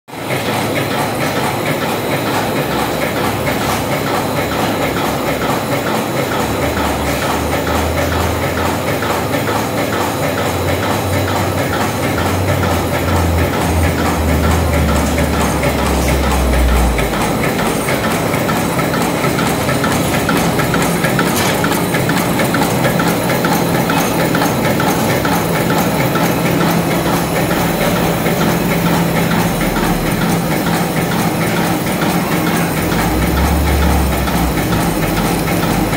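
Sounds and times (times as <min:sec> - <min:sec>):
machine mechanical noise: 0:00.2 - 0:35.9.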